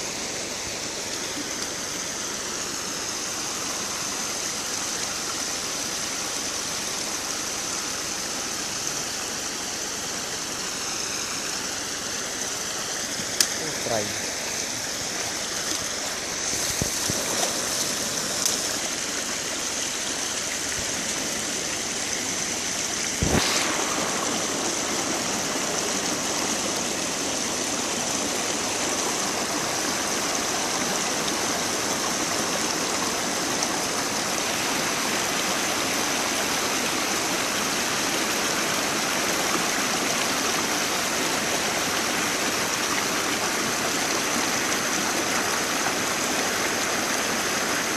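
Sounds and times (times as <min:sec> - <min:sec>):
water pouring over a dam: 0:00.0 - 0:47.9.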